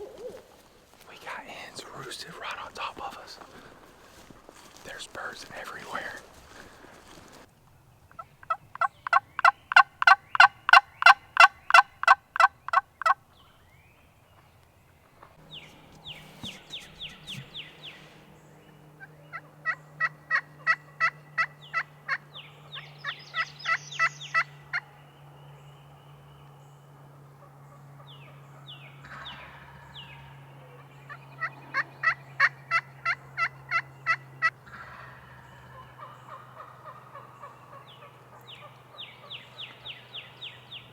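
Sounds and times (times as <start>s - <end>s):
wild turkeys calling: 0.0s - 13.5s, 15.1s - 25.0s, 29.0s - 40.9s.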